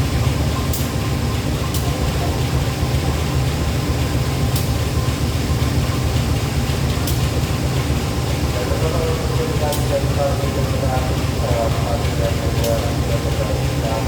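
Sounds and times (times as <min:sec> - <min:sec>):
locomotive engine rumbling: 0:00.0 - 0:14.0.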